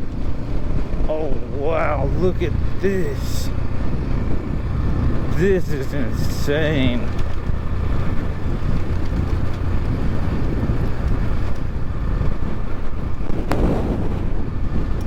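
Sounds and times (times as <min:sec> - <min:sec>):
dirt bike engine running: 0:00.0 - 0:15.0
wind buffeting microphone: 0:00.0 - 0:15.0.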